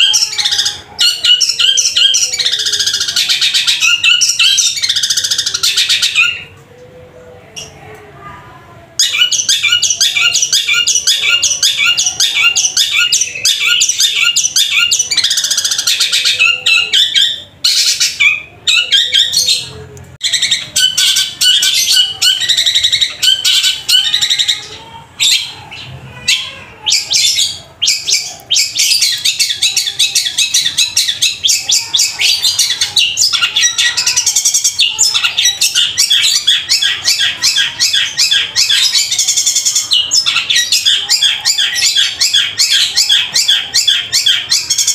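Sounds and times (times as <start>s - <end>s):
bird singing harsh chirps: 0.0s - 6.6s, 9.0s - 44.9s.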